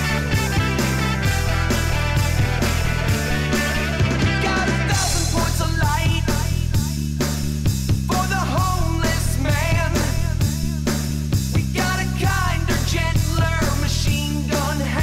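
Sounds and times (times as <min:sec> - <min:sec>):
rock song with male singer: 0:00.0 - 0:15.0.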